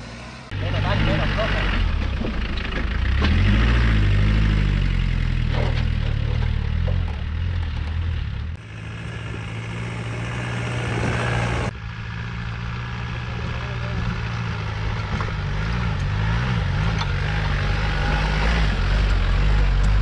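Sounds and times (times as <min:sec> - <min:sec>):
diesel engine working under load: 0:00.0 - 0:20.0.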